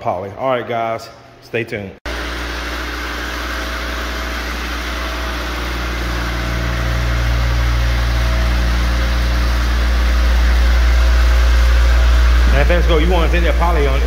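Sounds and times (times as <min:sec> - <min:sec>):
floor machine motor hum: 0:02.1 - 0:14.0.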